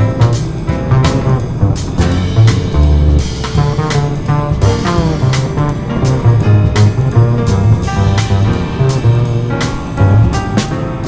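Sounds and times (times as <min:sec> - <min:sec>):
plucked bass line: 0:00.0 - 0:10.7
steady drum beat: 0:00.0 - 0:11.0.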